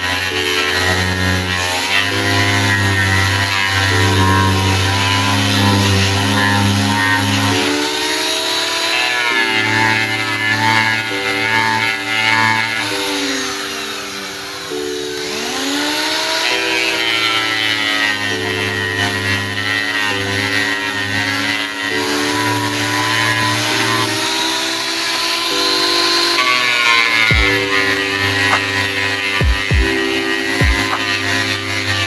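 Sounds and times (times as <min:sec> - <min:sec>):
electronic synth music: 0:00.0 - 0:32.0.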